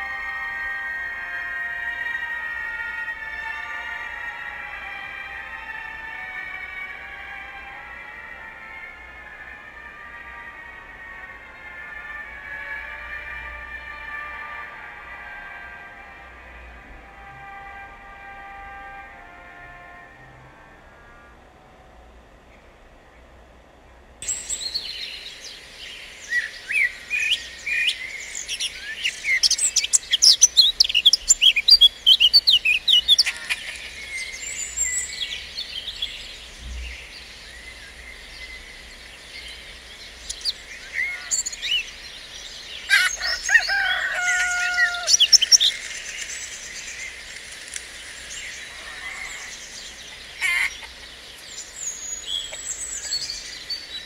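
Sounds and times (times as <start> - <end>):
songbirds chirping and singing: 0.0 - 20.0, 24.2 - 54.0.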